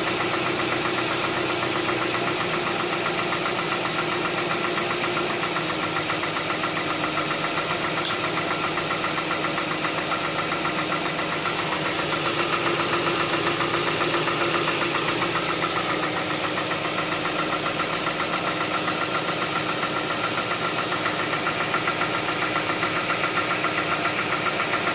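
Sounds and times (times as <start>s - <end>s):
car engine idling with ticking: 0.0s - 24.9s.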